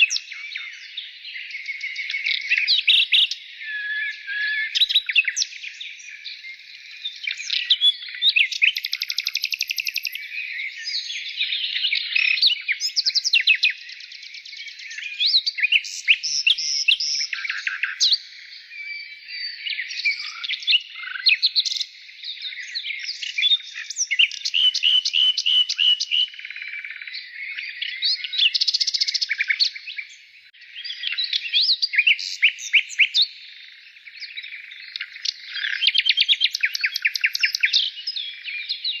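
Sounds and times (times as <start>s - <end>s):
songbirds chirping and singing: 0.0s - 39.0s.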